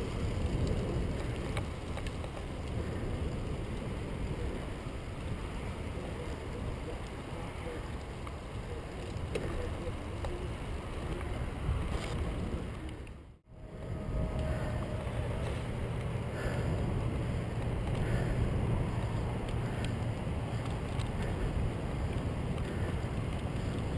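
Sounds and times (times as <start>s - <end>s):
faint bicycle ticks: 0.0s - 23.9s
wind rumbling on microphone: 0.0s - 23.9s.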